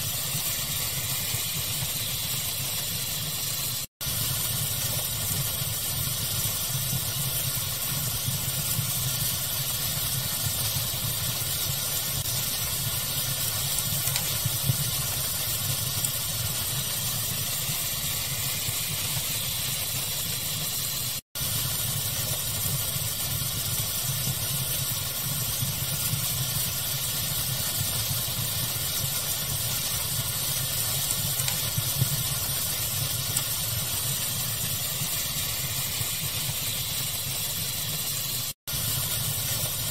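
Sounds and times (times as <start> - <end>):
crackling fire: 0.0 - 39.9
steady hiss: 0.0 - 39.9.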